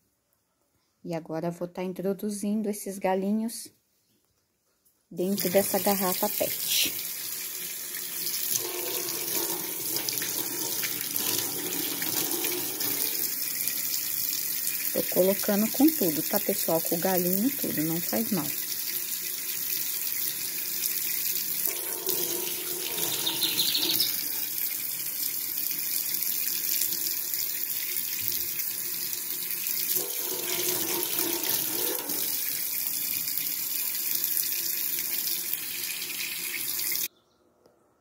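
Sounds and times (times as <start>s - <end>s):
tap water running into sink: 5.2s - 37.1s.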